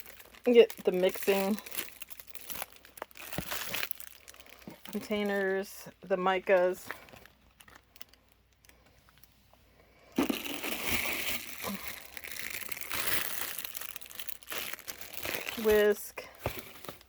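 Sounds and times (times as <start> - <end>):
packaging crinkling and rustling: 0.0 - 5.7, 6.5 - 9.3, 10.2 - 17.0.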